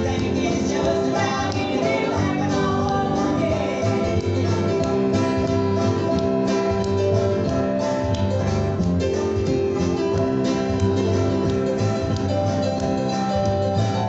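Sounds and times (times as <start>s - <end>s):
bass guitar: 0.0s - 14.0s
gospel band playing: 0.0s - 14.0s
strummed guitar: 0.0s - 14.0s.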